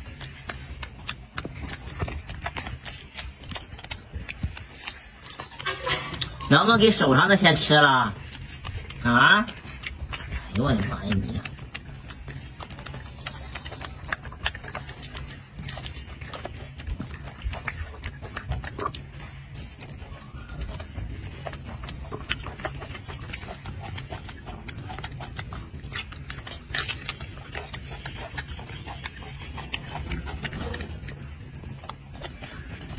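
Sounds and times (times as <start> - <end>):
monkey eating fruit crunching: 0.0 - 32.9.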